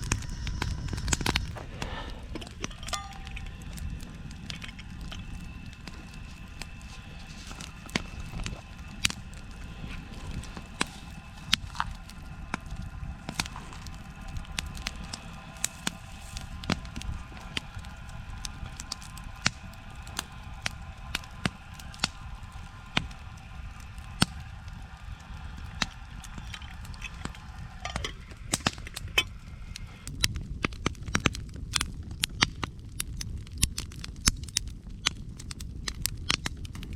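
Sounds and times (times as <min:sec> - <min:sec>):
campfire crackling and popping: 0:00.0 - 0:36.9
flames rushing: 0:00.0 - 0:36.9.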